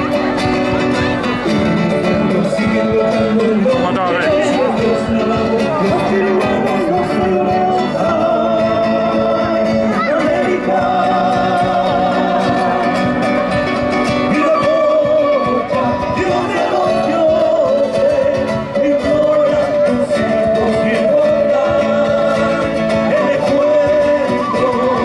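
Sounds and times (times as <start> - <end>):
acoustic guitars: 0.0 - 25.0
person singing long notes: 1.5 - 25.0.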